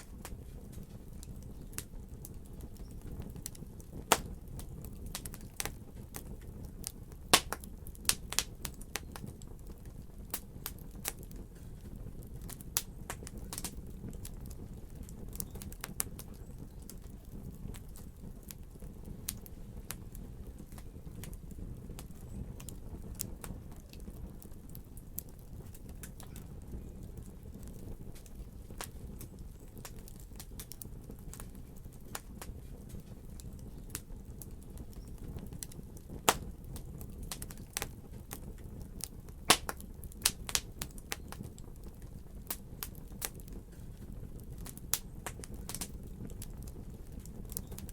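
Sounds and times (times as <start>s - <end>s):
fire crackling and popping: 0.0s - 47.9s
low rumble of flame: 0.0s - 47.9s.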